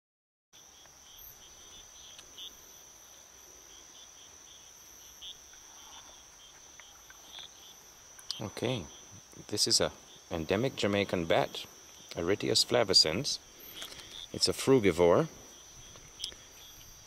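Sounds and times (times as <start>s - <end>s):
crickets trilling: 0.6s - 17.0s
insect chirps: 0.6s - 17.0s.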